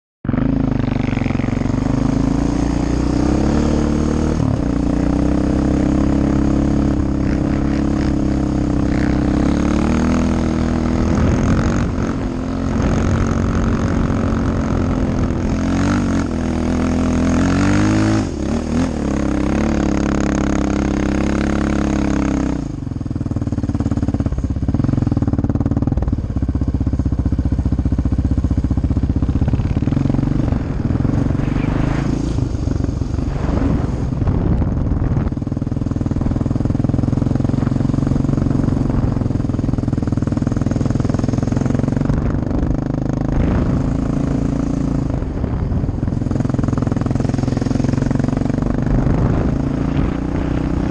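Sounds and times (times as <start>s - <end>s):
quad engine revving: 0.3s - 50.9s.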